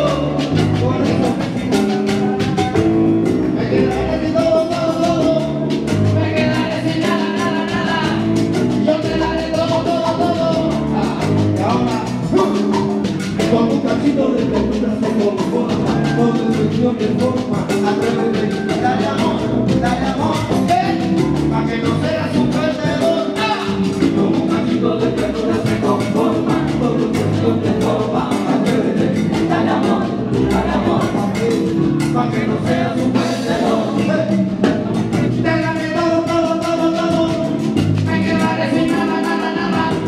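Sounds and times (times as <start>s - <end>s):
men singing: 0.0s - 2.8s, 3.4s - 40.0s
salsa band playing: 0.0s - 40.0s.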